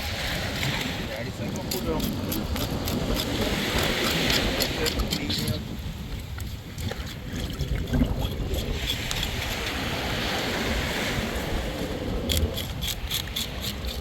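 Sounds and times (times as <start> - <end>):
sea water: 0.0 - 14.0
wind: 0.0 - 14.0.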